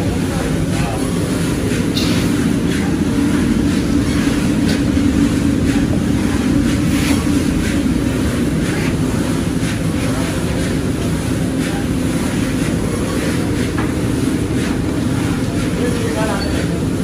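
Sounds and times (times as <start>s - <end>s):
loud steady low roar: 0.0s - 17.0s.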